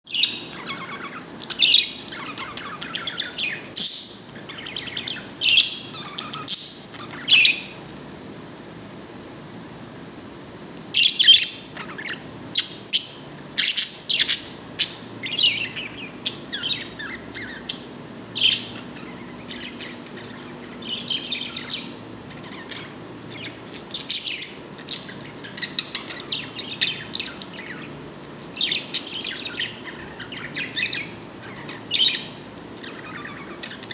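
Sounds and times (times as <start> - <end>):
bird chirping and tweeting: 0.1 - 7.9, 10.9 - 33.9.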